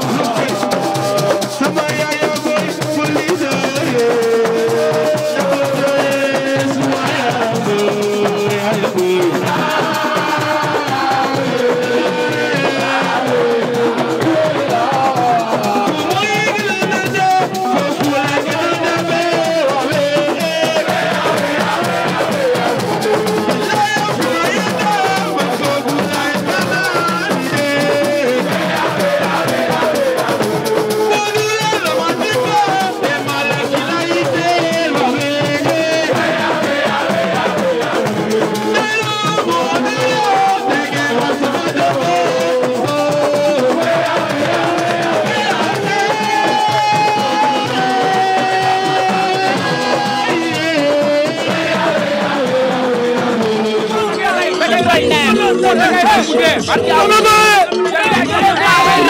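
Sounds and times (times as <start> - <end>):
drums: 0.0 - 59.0
person singing: 0.0 - 59.0.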